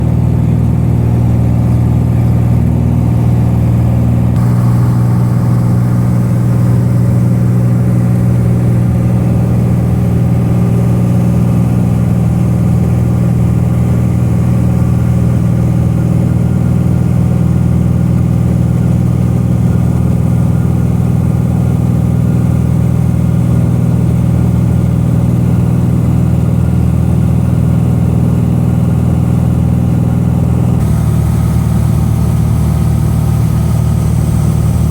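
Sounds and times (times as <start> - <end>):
propeller aircraft engine droning: 0.0 - 34.9.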